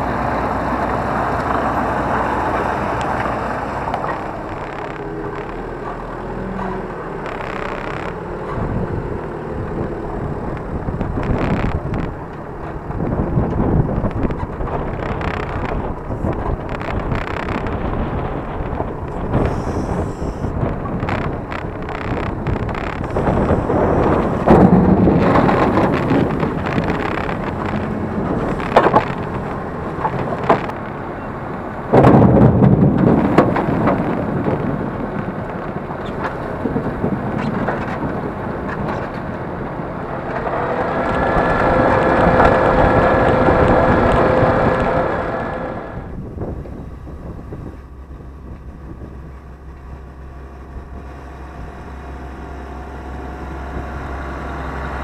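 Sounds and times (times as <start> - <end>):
steady pitched whine: 0.0 - 31.4, 37.7 - 55.0
tractor engine hum: 0.0 - 55.0.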